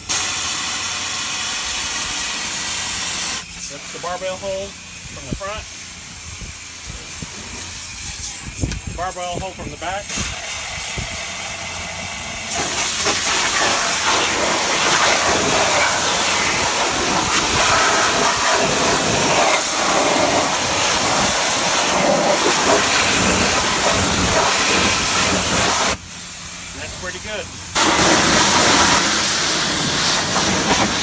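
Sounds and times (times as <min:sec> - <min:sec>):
pressure washer water hissing: 0:00.0 - 0:31.0.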